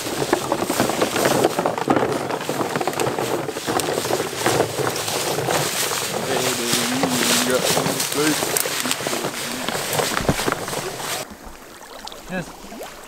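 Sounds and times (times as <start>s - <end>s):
people walking through brush: 0.0s - 13.0s.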